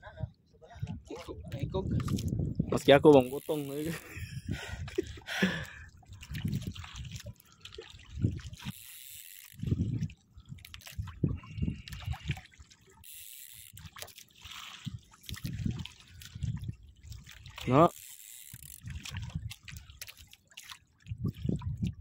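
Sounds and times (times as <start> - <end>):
water lapping against boat hull: 0.0 - 22.0.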